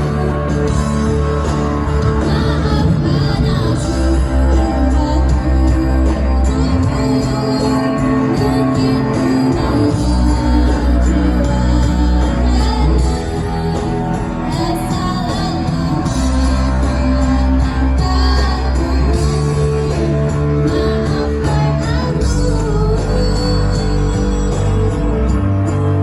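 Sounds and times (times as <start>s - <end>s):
amplified accompaniment with heavy bass: 0.0s - 26.0s.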